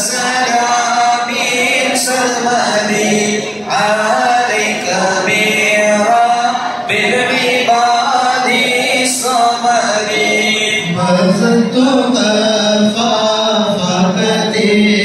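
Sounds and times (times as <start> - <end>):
men chanting melodic recitation: 0.0 - 15.0.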